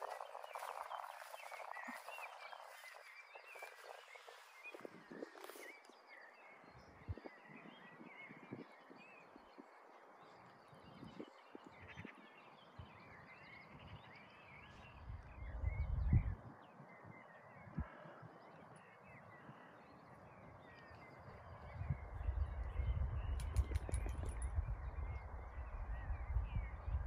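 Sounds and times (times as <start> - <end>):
birds singing and chirping: 0.0 - 27.0
wind rumbling on microphone: 0.0 - 27.0.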